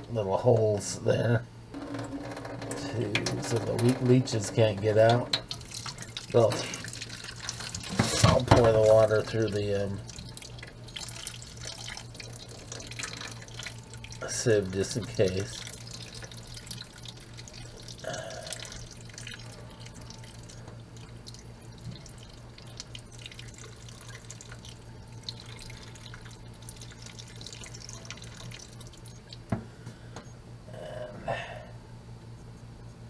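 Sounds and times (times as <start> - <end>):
water trickling into a metal sink: 1.8 - 29.5.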